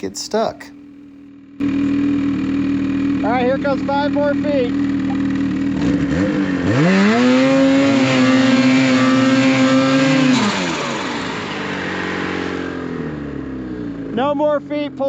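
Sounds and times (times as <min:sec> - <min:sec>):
gas engine revving: 0:00.0 - 0:15.0.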